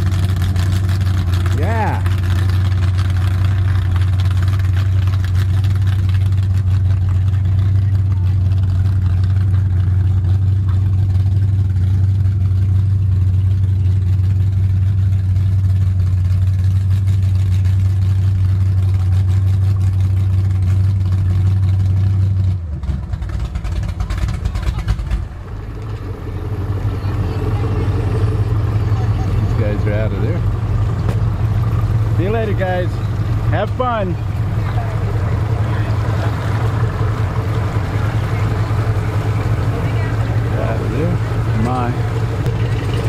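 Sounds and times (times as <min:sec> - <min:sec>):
boat motors idling: 0:00.0 - 0:43.0.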